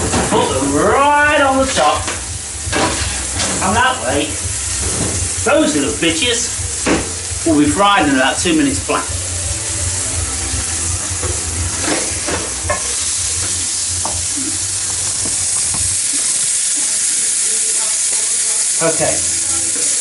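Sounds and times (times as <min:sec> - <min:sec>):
food frying with sizzling: 0:00.0 - 0:20.0.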